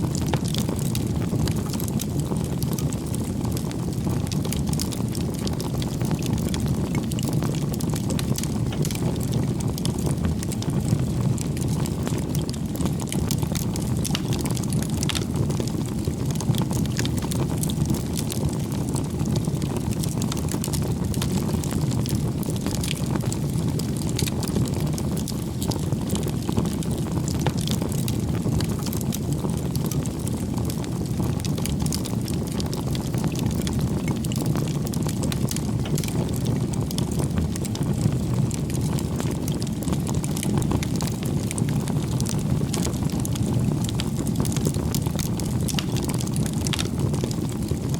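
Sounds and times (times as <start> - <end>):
bonfire flames rumbling: 0.0 - 47.9
wood crackling and popping: 0.0 - 47.9.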